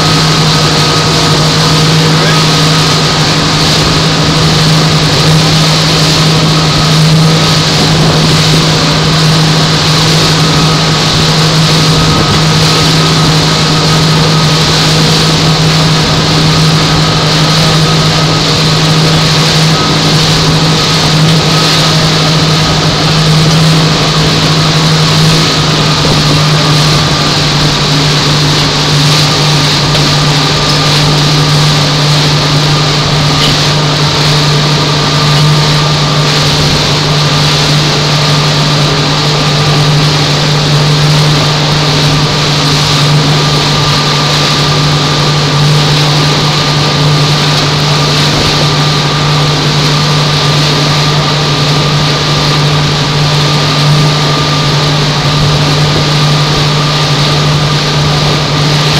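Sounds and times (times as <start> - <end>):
motorboat engine droning: 0.0 - 58.9
rushing wind: 0.0 - 58.9
water rushing: 0.0 - 58.9.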